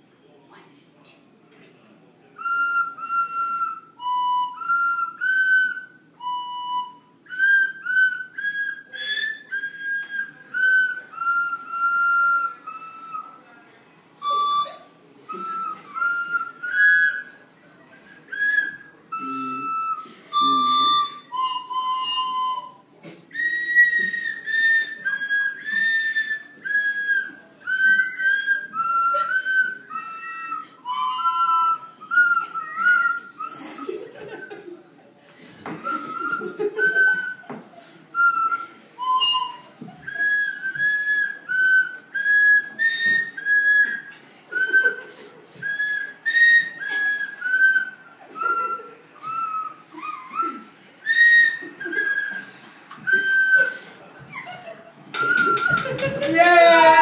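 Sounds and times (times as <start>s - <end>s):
tune on tuned whistles: 2.4s - 13.4s, 14.2s - 17.4s, 18.1s - 34.6s, 35.7s - 37.5s, 38.1s - 56.1s.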